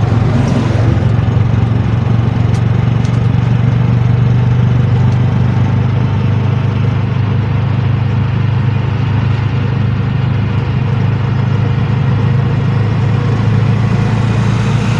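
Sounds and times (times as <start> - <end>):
low engine drone: 0.0 - 14.9.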